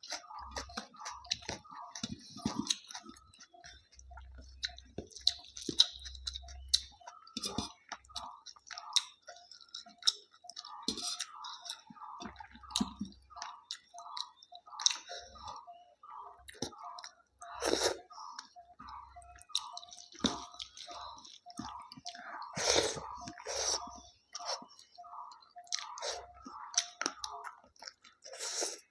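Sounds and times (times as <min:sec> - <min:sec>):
chewing food: 0:00.0 - 0:28.9.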